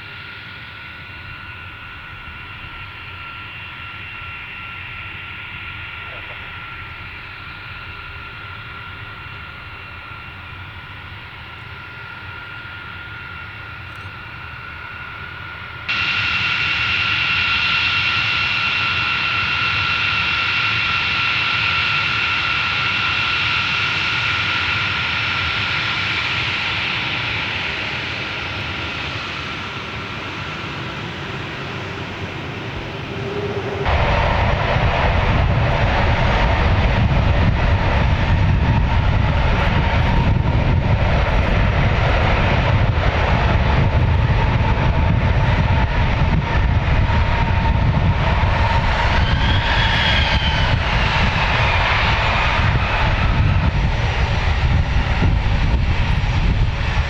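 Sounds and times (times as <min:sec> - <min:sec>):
jet engine rumble: 0:00.0 - 0:57.0
jet engine turbine whine: 0:00.0 - 0:57.0.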